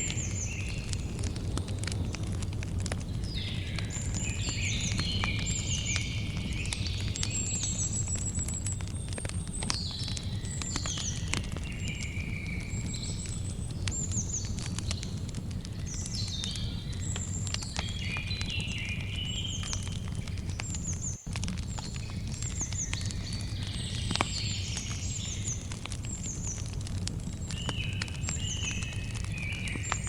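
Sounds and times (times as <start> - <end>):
birds chirping: 0.0 - 30.0
campfire crackling and popping: 0.0 - 30.0.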